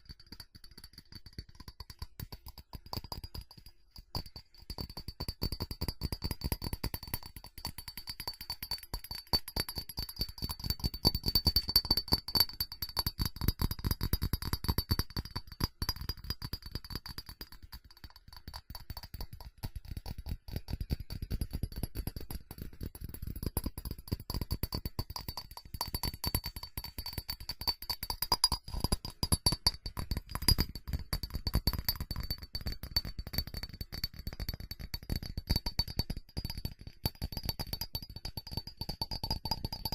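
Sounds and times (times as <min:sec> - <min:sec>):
fast tapping on ceramic: 0:00.0 - 0:39.9
faint high ceramic ringing: 0:00.1 - 0:19.4, 0:21.3 - 0:39.9.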